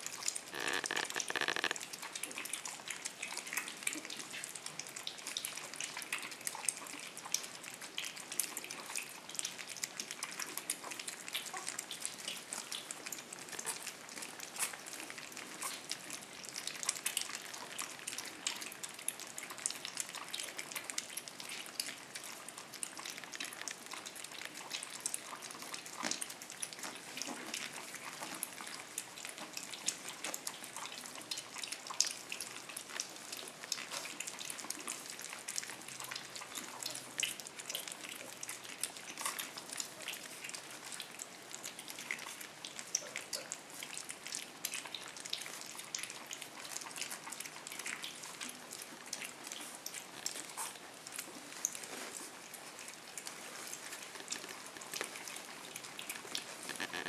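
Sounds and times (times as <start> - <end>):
puppies chewing wet food: 0.0 - 57.0.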